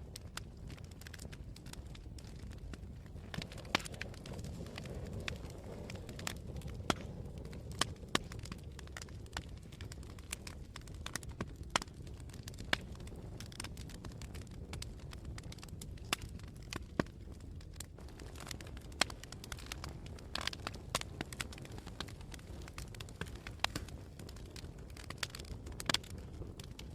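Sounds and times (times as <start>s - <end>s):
burning wood crackling: 0.0s - 26.9s
rush of flames: 0.0s - 26.9s.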